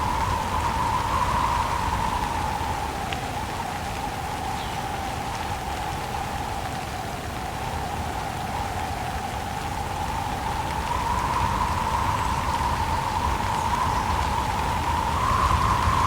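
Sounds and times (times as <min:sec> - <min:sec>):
steady rain: 0:00.0 - 0:16.0
wind howling: 0:00.0 - 0:16.0.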